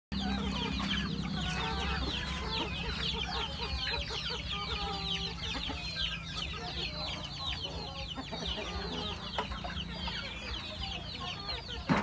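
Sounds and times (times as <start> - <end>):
chicks peeping: 0.1 - 12.0
hen clucking: 0.1 - 12.0.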